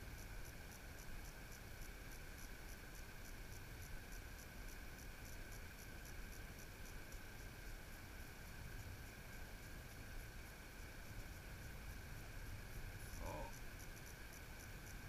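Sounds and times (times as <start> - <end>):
cicada chorus: 0.0 - 15.0.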